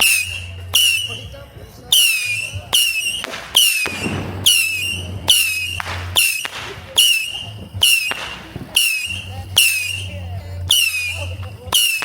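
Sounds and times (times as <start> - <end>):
firework crackle: 0.0 - 12.0
whistling firework shots: 0.0 - 12.0.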